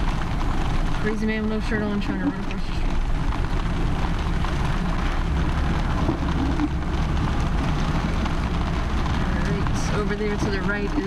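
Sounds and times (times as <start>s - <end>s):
rain on a car: 0.0s - 11.0s
road and engine rumble: 0.0s - 11.0s.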